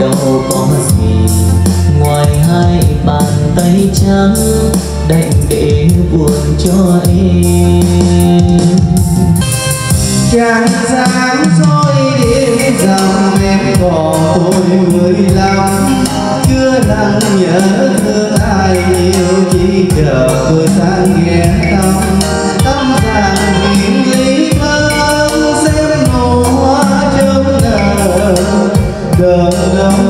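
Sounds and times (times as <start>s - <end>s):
karaoke backing music: 0.0s - 30.0s.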